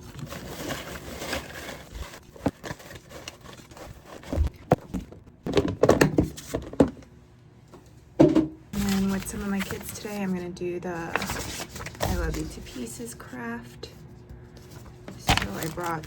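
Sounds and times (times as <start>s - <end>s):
cards rustling in sensory bin: 0.0s - 6.9s, 8.8s - 16.0s.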